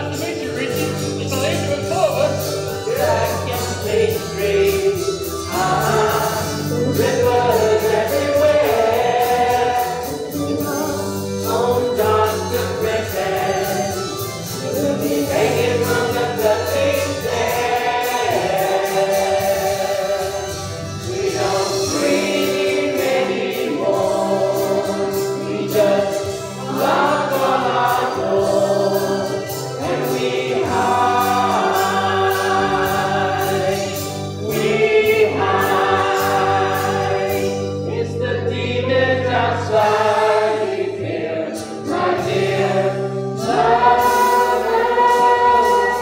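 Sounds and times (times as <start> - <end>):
chorus singing: 0.0 - 46.0
instrumental accompaniment with beat: 0.0 - 46.0.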